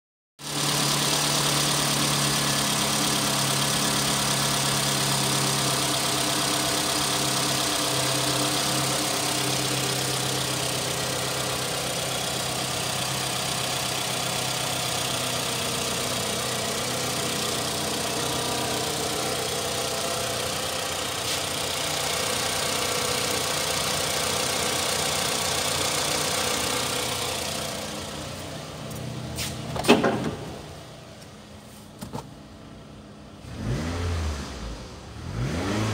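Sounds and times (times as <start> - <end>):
car engine idling: 0.4 - 33.5.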